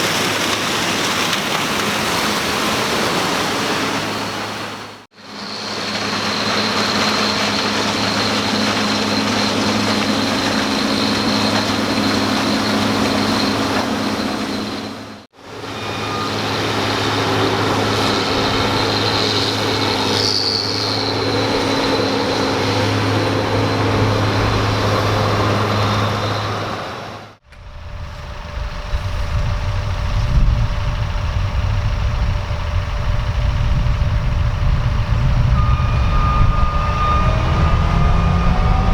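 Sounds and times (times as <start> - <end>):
combine harvester engine drone: 0.0 - 38.9
high constant whine: 4.0 - 38.9
deep rough machine rumble: 5.4 - 38.9.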